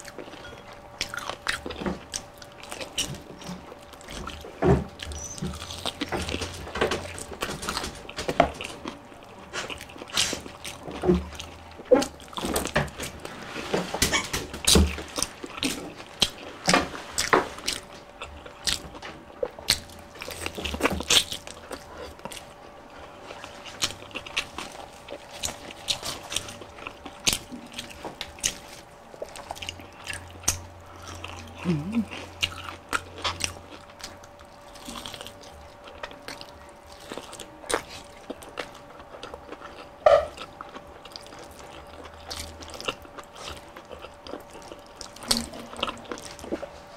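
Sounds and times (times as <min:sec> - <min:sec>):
crunching fried chicken: 0:00.0 - 0:46.9.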